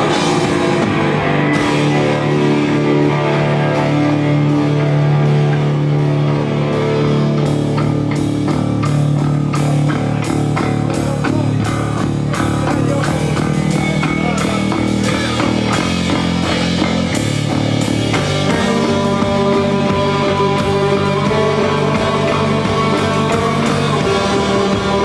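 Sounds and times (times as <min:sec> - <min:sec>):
drum kit strikes: 0:00.0 - 0:25.0
electric guitar: 0:00.0 - 0:25.0.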